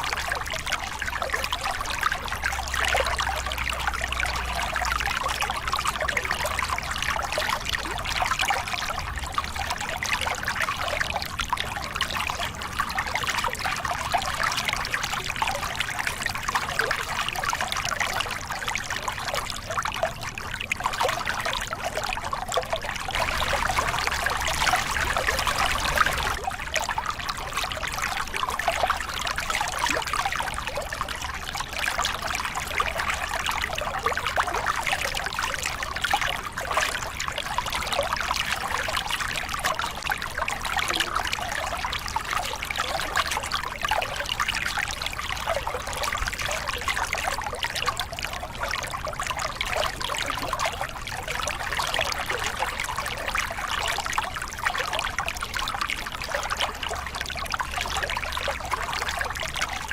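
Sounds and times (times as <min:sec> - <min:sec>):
water splashing over rocks: 0:01.2 - 0:59.9.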